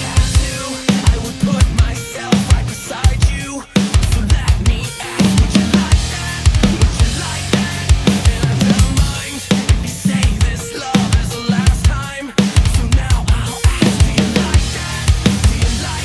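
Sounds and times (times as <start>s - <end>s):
drum kit playing groove: 0.0s - 16.0s.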